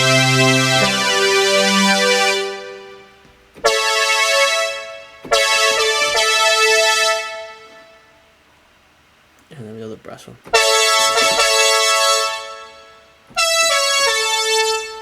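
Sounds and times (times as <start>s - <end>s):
synthesizer brass chords: 0.0s - 8.1s, 10.5s - 15.0s.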